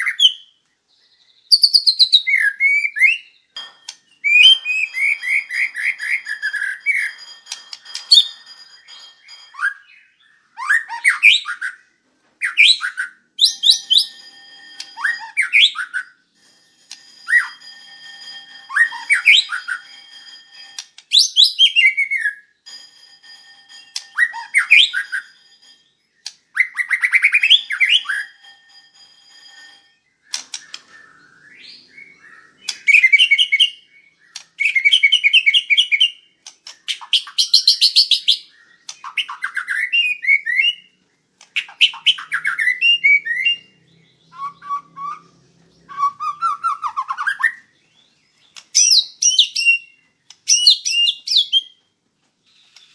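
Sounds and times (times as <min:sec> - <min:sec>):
songbird whistling and trilling: 0:00.0 - 0:11.8, 0:12.4 - 0:16.2, 0:18.7 - 0:22.5, 0:23.9 - 0:25.4, 0:26.3 - 0:28.4, 0:30.3 - 0:40.9, 0:41.6 - 0:51.8.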